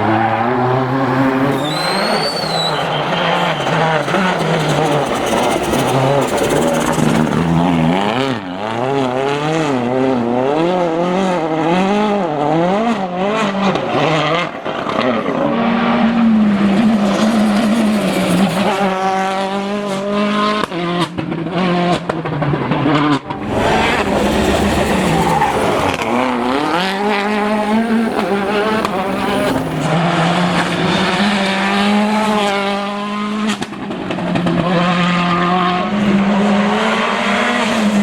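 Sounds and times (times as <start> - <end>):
rally car engine revving: 0.0 - 38.0.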